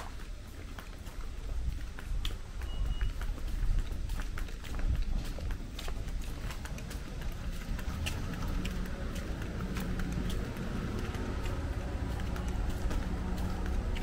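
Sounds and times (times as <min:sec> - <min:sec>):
footsteps on concrete: 0:00.0 - 0:14.0
steady low rumble: 0:00.0 - 0:14.0.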